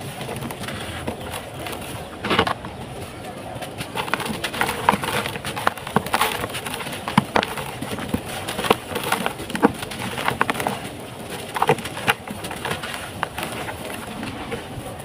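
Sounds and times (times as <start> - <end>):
dry chunks crushed by hand: 0.0 - 15.0.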